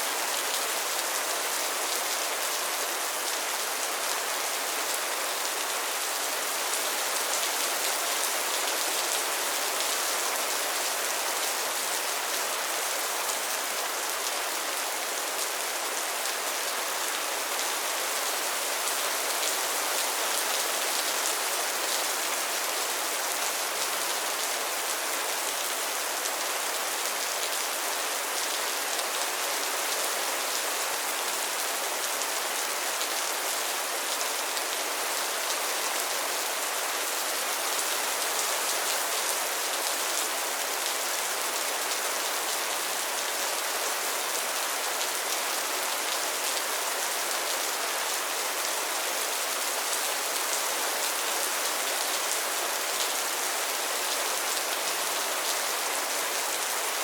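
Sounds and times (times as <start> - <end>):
rain falling on pond: 0.0 - 57.0.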